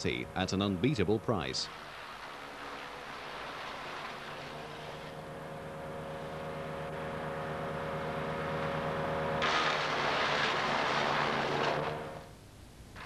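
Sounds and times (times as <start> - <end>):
wood chipper engine running: 0.0 - 12.4
wood chipper rushing noise: 0.0 - 12.4.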